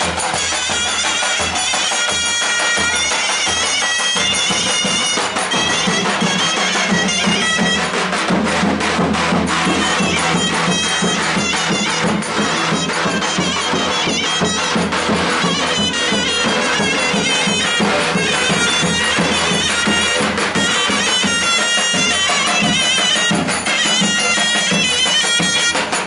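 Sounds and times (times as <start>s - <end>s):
drum beats: 0.0s - 26.0s
shrill reed wind instrument: 0.0s - 26.0s.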